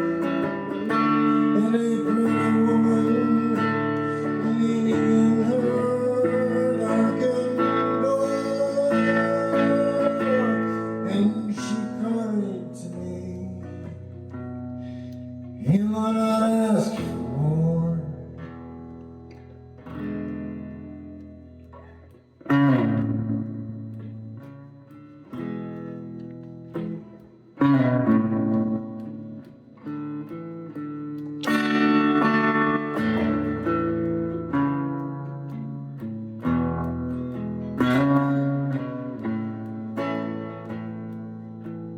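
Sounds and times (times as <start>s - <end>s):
guitar chords ringing: 0.0s - 41.9s.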